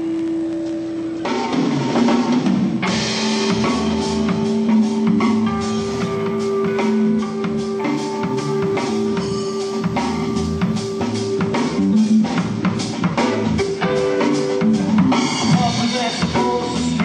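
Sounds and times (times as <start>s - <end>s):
electric guitar notes: 0.0s - 17.0s
drum-kit beat: 1.2s - 17.0s.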